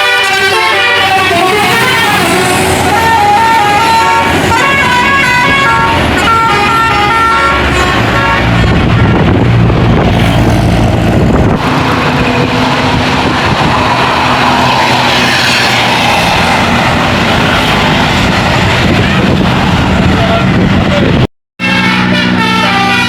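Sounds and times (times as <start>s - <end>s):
tour bus passing: 0.0s - 23.0s.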